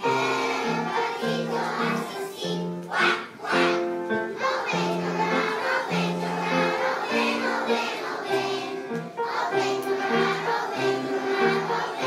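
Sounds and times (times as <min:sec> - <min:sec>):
children's choir singing: 0:00.0 - 0:12.0.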